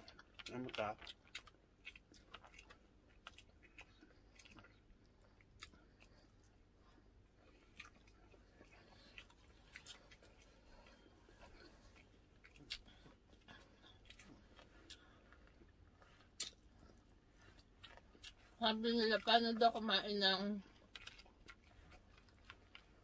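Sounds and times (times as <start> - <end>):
people chewing: 0.0 - 23.0.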